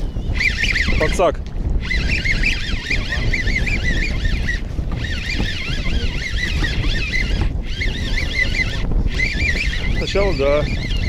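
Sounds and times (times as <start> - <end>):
wavering high-pitched whine: 0.0 - 1.2, 1.8 - 11.0
wind buffeting microphone: 0.0 - 11.0.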